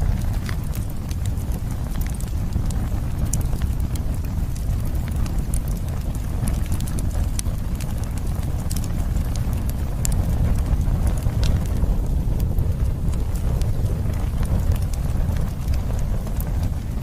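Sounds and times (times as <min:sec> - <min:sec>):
campfire low rumble: 0:00.0 - 0:17.0
wood crackling and popping: 0:00.0 - 0:17.0.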